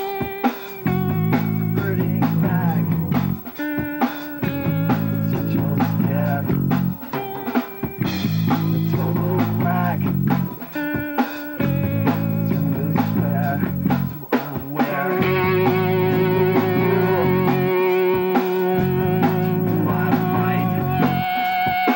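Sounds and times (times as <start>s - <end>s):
drum kit: 0.0s - 21.9s
electric guitars playing riff: 0.0s - 21.9s.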